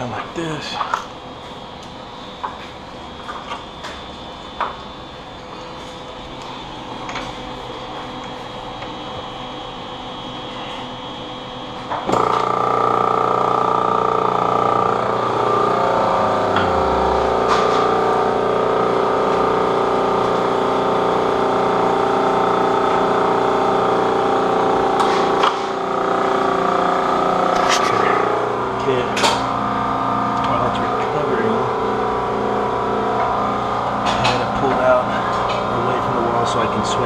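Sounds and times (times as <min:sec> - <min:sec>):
motor and compressor hum: 0:00.0 - 0:37.0.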